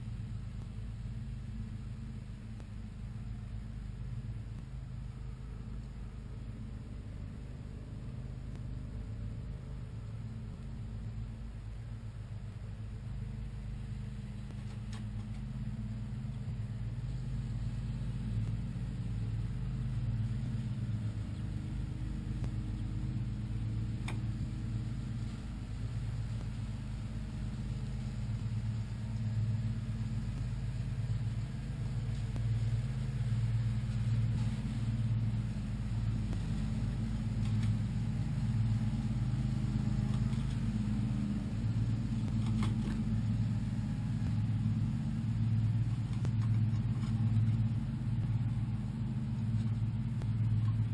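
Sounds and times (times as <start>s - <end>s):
low mechanical rumble: 0.0s - 50.9s.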